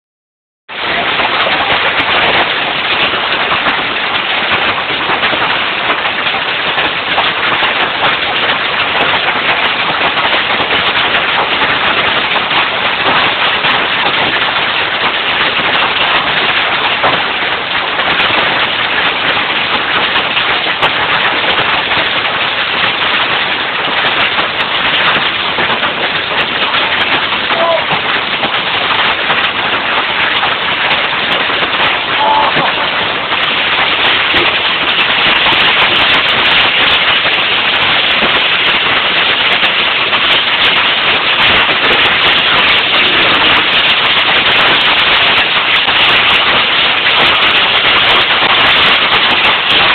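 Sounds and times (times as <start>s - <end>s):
heavy hail pelting: 0.7s - 49.9s.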